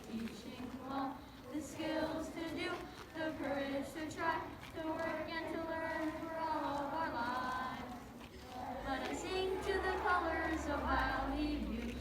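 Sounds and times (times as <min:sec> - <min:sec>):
children and adults singing together: 0:00.0 - 0:12.0.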